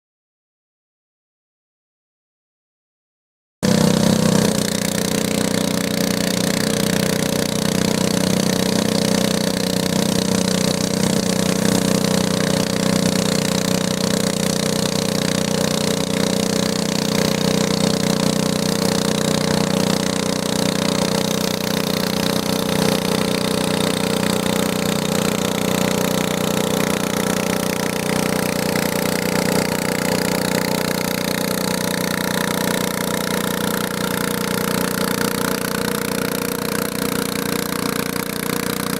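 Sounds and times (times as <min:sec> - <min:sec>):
tractor engine running: 0:03.6 - 0:38.9.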